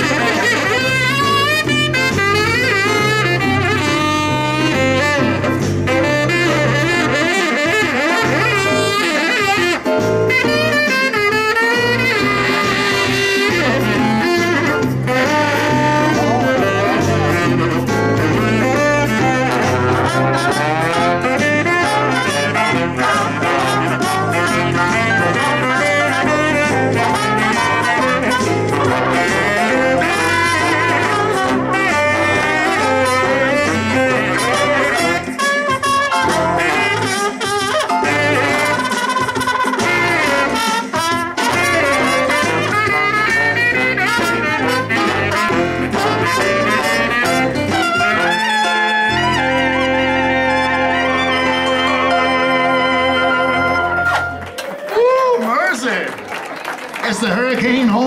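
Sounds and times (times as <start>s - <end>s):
bass line: 0.0s - 54.5s
trombone: 0.0s - 54.6s
trumpet: 0.0s - 54.6s
jazz band playing: 0.0s - 54.9s
keyboards: 0.0s - 54.9s
saxophone: 0.0s - 55.2s.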